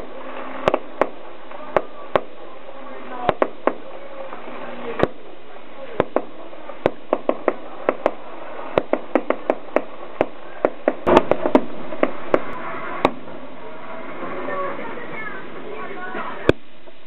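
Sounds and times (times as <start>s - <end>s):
fireworks bangs: 0.0s - 16.6s.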